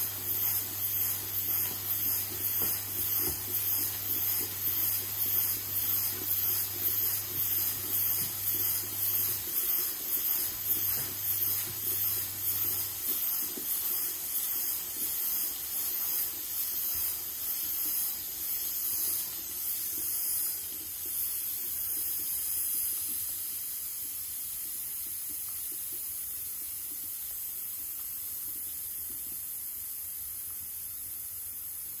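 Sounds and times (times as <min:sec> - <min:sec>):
steam hissing from moka pot: 0:00.0 - 0:32.0.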